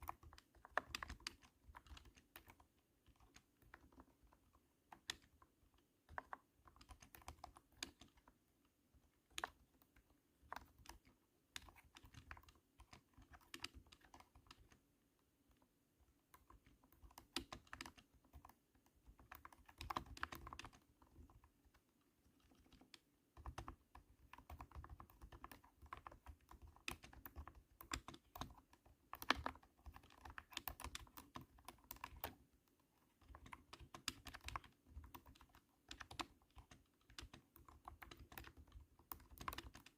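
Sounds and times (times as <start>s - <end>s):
thunky mechanical keyboard typing: 0.0s - 8.4s, 9.1s - 14.8s, 16.2s - 39.9s.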